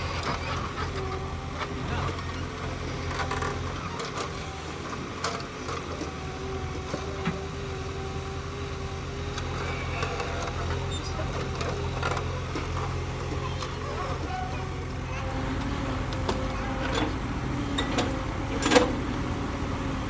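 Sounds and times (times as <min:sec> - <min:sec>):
diesel engine of earthmoving machinery: 0:00.0 - 0:20.0.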